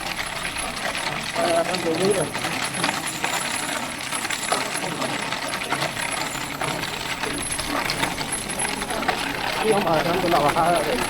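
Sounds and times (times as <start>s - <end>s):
cart wheels rattling over pavement: 0.0s - 11.0s.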